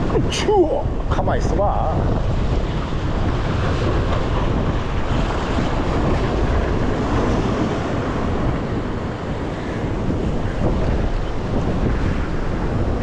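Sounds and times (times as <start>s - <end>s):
sea waves breaking on rocks: 0.0s - 13.0s
wind buffeting microphone: 0.0s - 13.0s.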